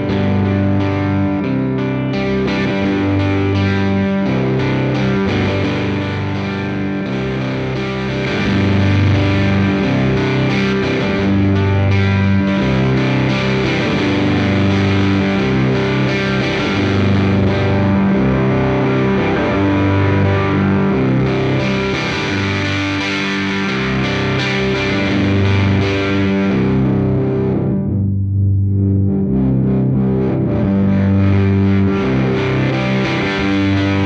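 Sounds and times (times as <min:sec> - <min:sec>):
distorted electric guitar riff: 0:00.0 - 0:34.0.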